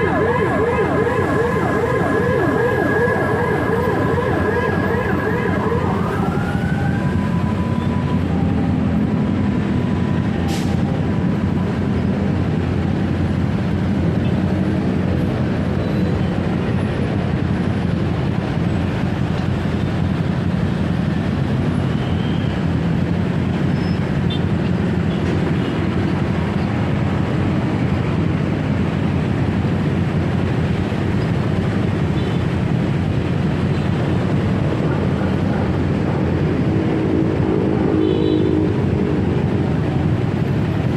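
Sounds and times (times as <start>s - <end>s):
traffic noise: 0.0s - 40.9s
wind: 0.0s - 40.9s.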